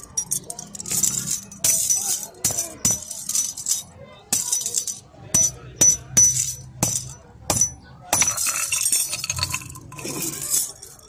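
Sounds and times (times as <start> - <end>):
chain links clinking and rattling: 0.0 - 11.0.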